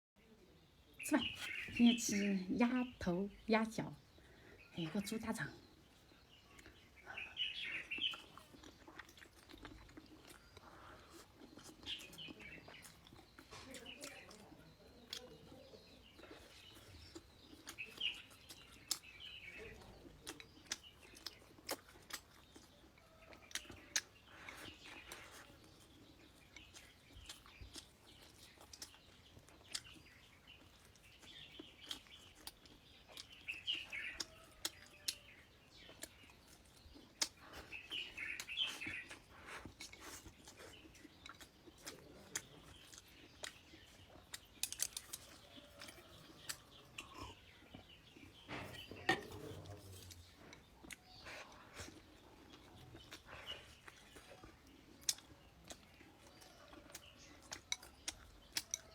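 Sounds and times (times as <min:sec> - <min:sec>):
birds chirping: 0:00.2 - 0:58.9
chewing and gnawing crunches: 0:05.5 - 0:58.9.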